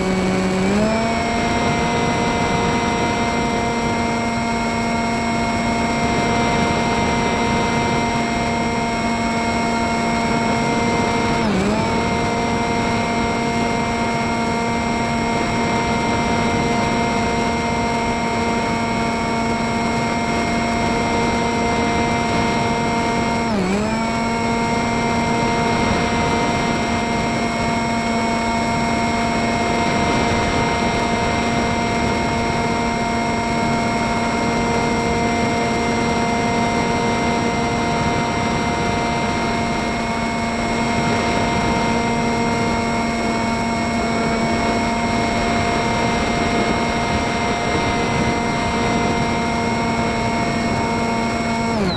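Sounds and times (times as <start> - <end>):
model plane motor whining: 0.0 - 51.9.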